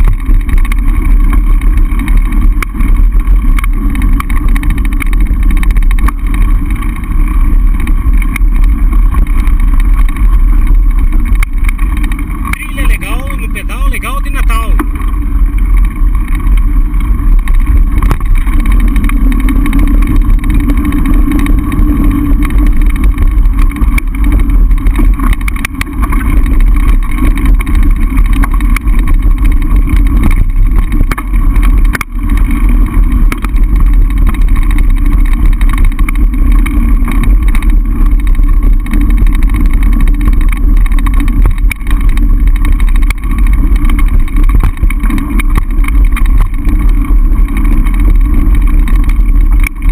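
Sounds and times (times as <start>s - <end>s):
bike rumbling and rattling: 0.0s - 49.9s.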